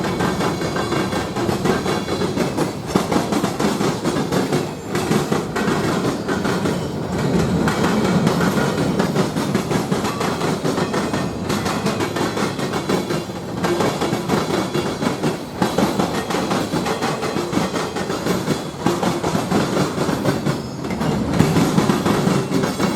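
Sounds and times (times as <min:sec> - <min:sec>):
train passing on tracks: 0:00.0 - 0:22.9.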